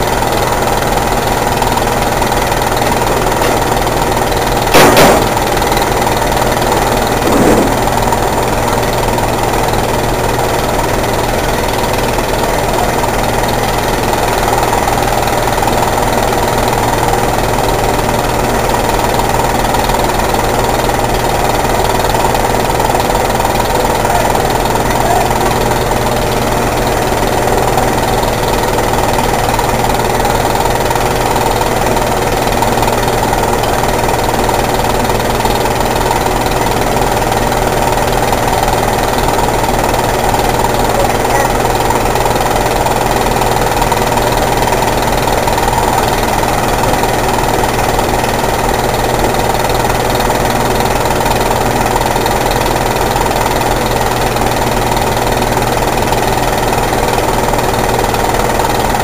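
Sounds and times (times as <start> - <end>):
fire truck engine idling: 0.0 - 59.0.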